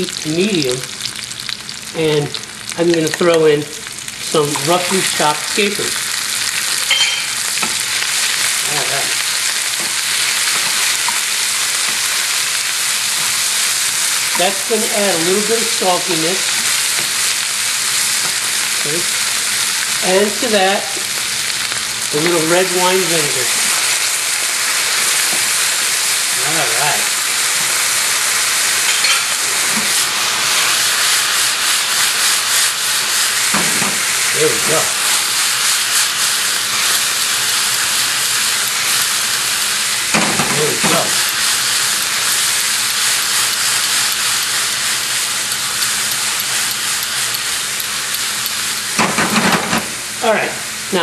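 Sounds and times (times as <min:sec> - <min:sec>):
vegetables sizzling in hot oil: 0:00.0 - 0:51.0.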